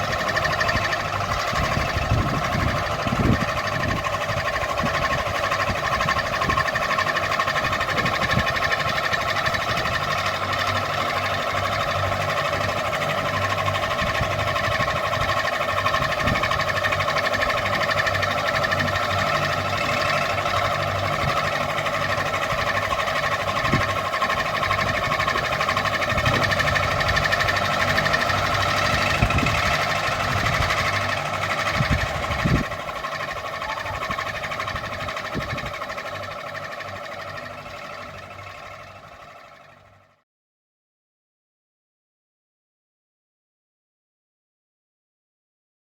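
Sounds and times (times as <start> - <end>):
ceiling fan whirring: 0.0 - 40.0.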